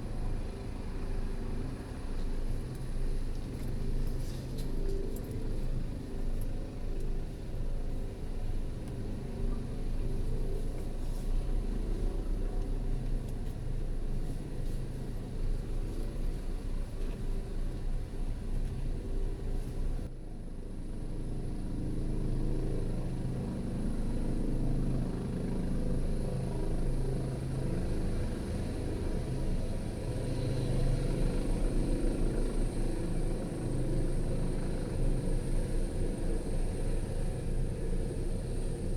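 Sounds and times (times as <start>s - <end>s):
helicopter hovering: 0.0s - 38.9s.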